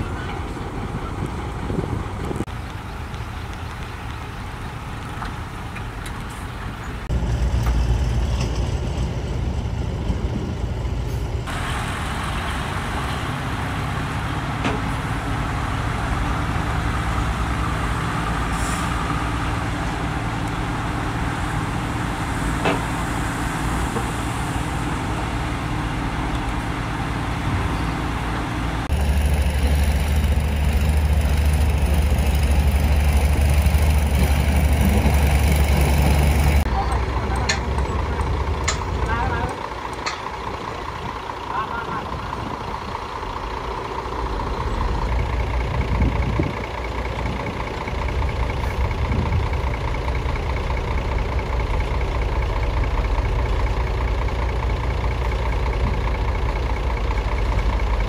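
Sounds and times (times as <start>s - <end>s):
heavy diesel truck engines running: 0.0s - 58.0s.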